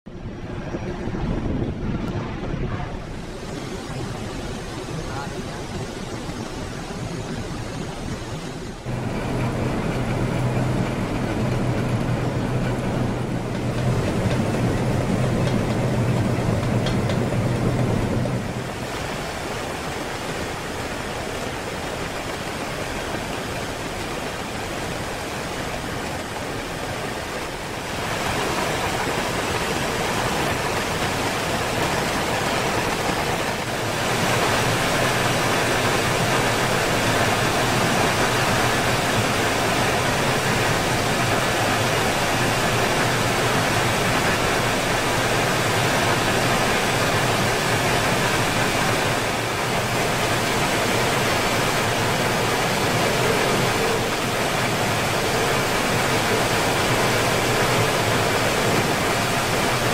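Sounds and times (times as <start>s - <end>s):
machinery rushing noise: 0.1s - 59.9s.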